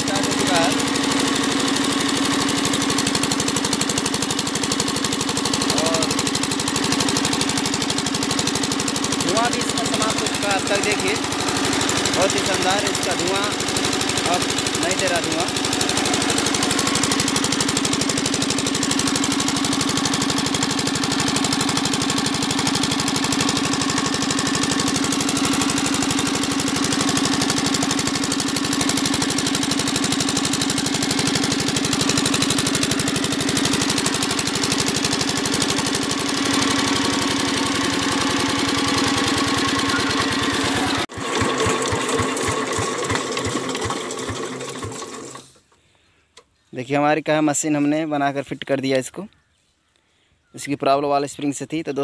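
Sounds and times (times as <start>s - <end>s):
diesel engine running: 0.0s - 45.5s.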